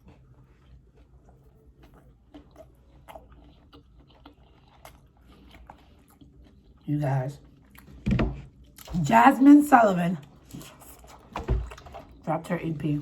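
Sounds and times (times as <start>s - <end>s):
person chewing: 0.0s - 9.0s, 10.2s - 12.3s.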